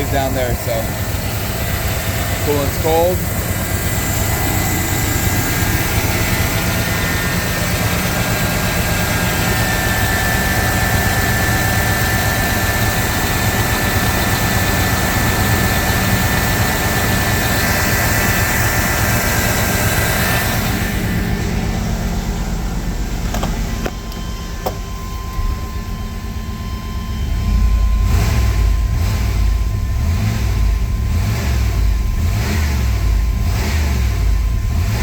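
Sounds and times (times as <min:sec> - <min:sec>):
pickup engine idling: 0:00.0 - 0:35.0.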